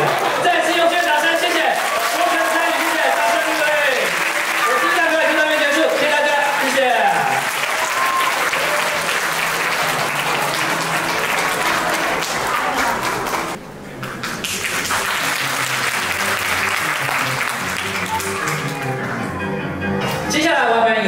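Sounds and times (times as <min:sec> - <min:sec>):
audience applauding: 0:00.0 - 0:19.2
background music: 0:00.0 - 0:21.0.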